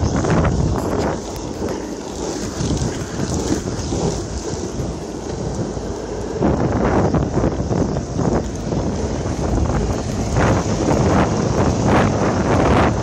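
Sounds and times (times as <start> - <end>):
skateboard wheels rolling on asphalt: 0.0 - 13.0
wind buffeting microphone: 0.0 - 13.0.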